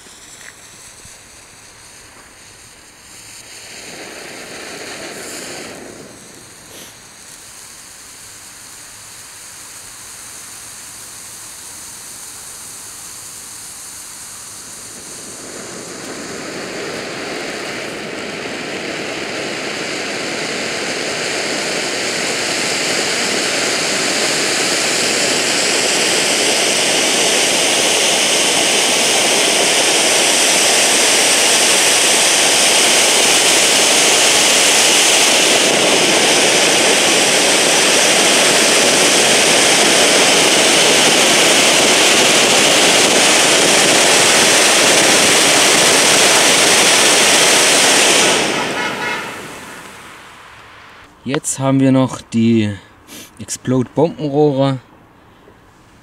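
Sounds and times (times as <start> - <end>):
firework fountain hissing: 0.0 - 56.0.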